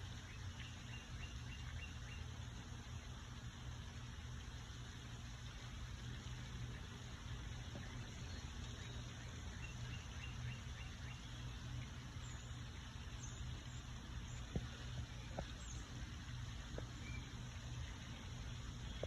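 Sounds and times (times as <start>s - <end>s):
low hum of distant traffic: 0.0s - 19.0s.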